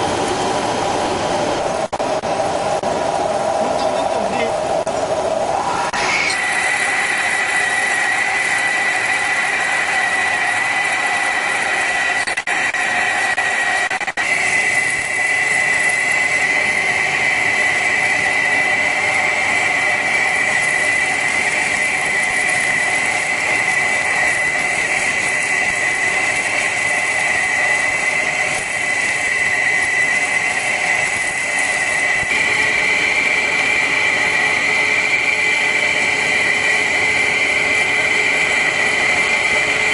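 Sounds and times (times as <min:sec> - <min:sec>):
lathe cutting metal: 0:00.0 - 0:39.9
high-pitched cutting squeal: 0:05.7 - 0:39.9.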